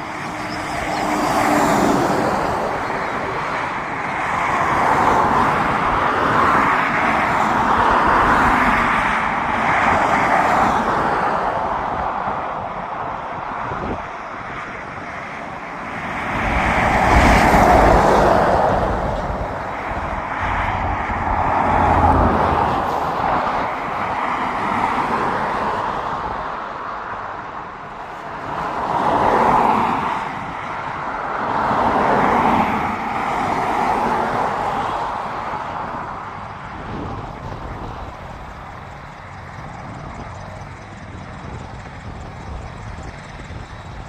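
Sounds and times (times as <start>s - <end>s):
helicopter rotors and engines: 0.0s - 44.0s.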